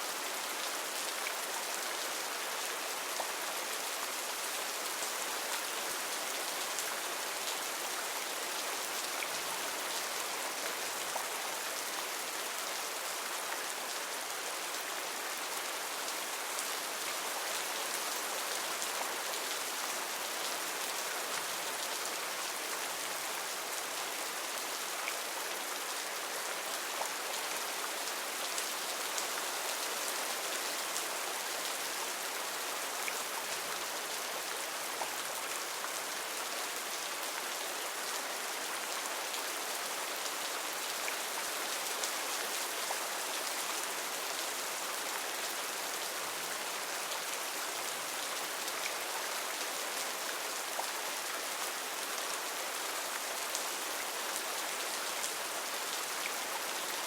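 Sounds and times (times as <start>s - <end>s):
heavy rain on foliage: 0.0s - 57.0s.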